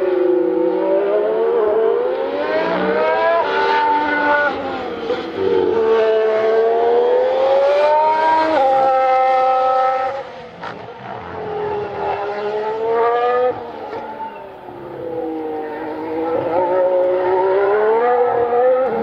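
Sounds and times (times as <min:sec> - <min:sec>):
racing car engine accelerating: 0:00.0 - 0:19.0.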